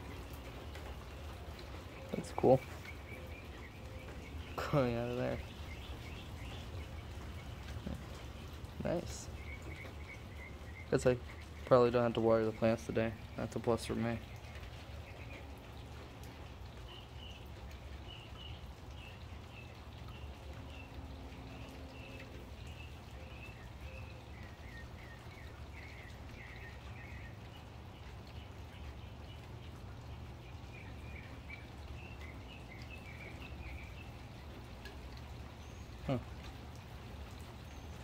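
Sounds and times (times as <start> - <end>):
light rain falling: 0.0 - 38.0
bird chirping: 1.6 - 15.6, 16.8 - 34.6.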